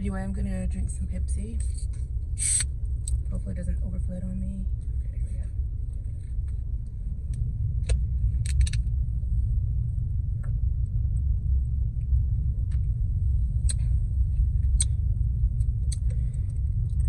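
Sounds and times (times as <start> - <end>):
low rumble inside car cabin: 0.0 - 17.0.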